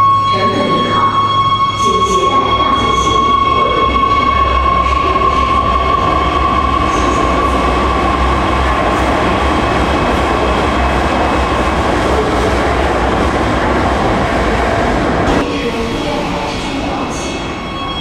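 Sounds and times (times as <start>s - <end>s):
high tone from train: 0.0s - 14.2s, 15.3s - 18.0s
train wheels rumbling on rail: 2.2s - 17.6s.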